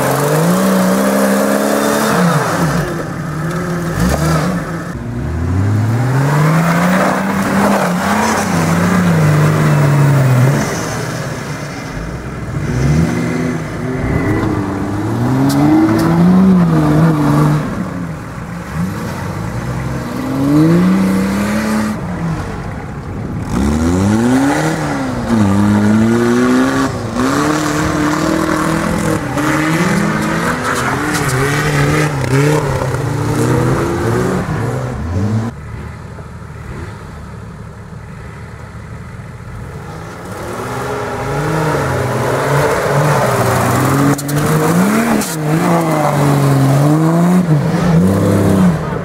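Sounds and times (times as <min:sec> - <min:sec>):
car engine revving: 0:00.0 - 0:35.7, 0:39.2 - 0:49.0.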